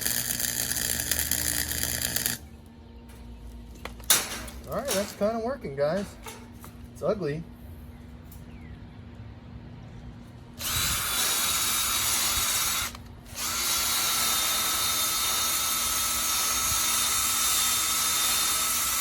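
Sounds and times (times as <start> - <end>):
electric welder crackling: 0.0 - 7.0, 10.6 - 19.0.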